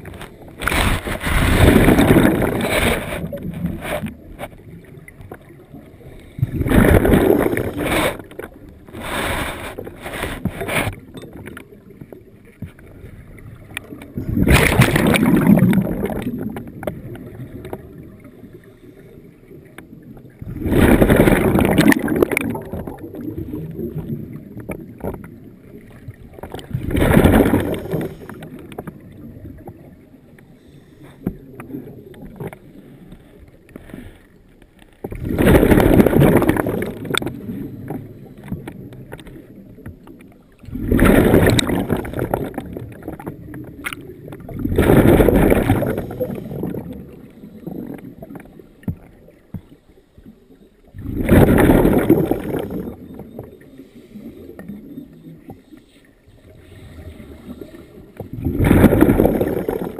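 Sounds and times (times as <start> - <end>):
underwater breath bubbles: 0.0 - 11.9, 12.8 - 34.3, 35.0 - 39.3, 40.6 - 49.1, 50.9 - 59.9.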